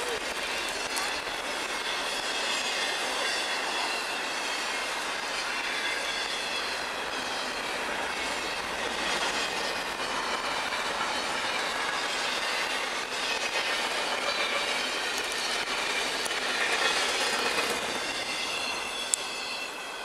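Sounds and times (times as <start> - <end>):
freight cars rolling on rails: 0.0 - 20.0
high-pitched wheel squeal: 1.9 - 20.0.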